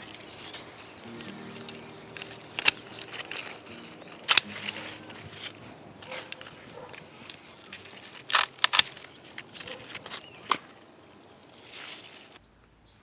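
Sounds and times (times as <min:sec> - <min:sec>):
sharp clicks: 0:00.0 - 0:11.7
short rustles: 0:00.0 - 0:12.4.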